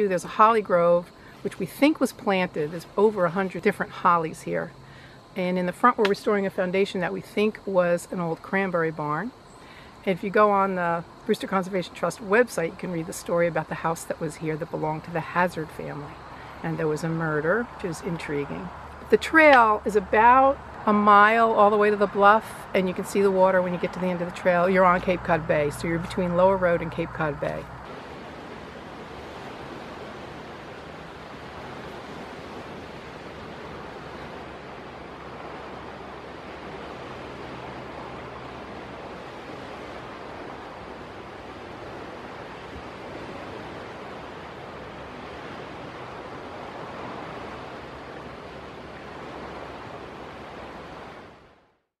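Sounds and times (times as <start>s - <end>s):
wind: 0.0s - 52.0s.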